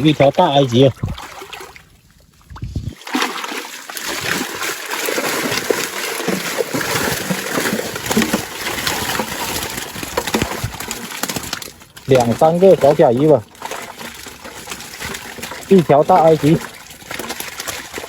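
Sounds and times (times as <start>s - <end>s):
fish thrashing and splashing: 0.0s - 18.0s.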